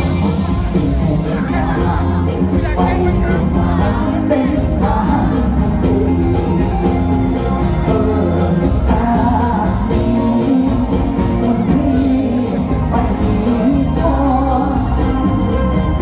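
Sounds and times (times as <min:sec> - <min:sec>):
heavy bass line: 0:00.0 - 0:16.0
live band over loudspeakers: 0:00.0 - 0:16.0
steady drum beat: 0:00.0 - 0:16.0.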